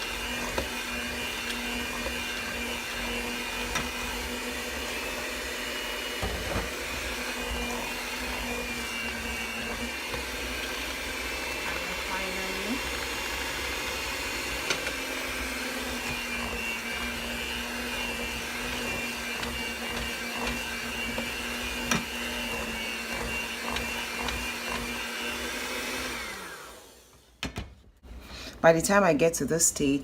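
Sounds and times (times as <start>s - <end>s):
electric mixer motor whine: 0.0s - 27.4s.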